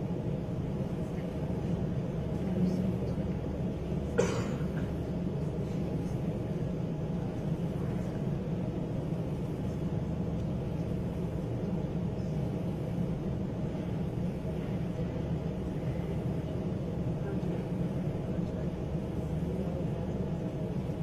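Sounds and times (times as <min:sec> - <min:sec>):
low rumble of hall noise: 0:00.0 - 0:21.0.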